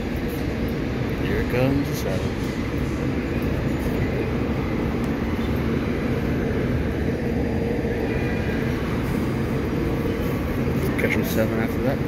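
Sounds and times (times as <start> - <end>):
city traffic rumble: 0.0 - 12.0
elevated railway noise: 0.0 - 12.0.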